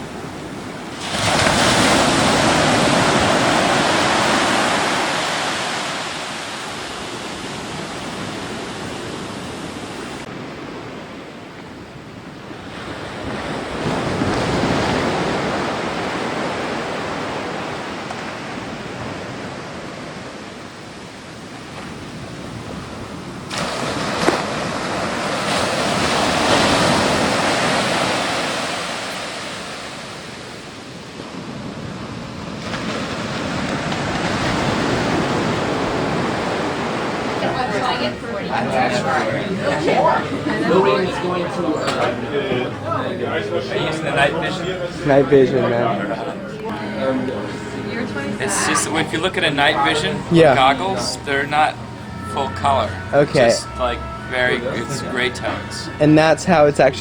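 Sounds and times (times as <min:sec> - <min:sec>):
surf: 0:00.0 - 0:57.0.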